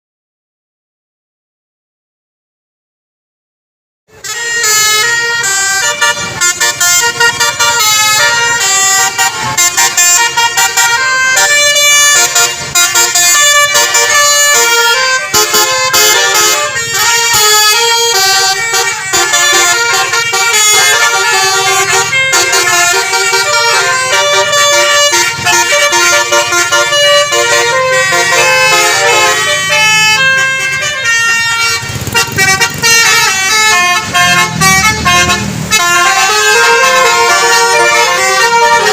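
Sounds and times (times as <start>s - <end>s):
multi-tone bus horn tunes: 4.1s - 38.9s.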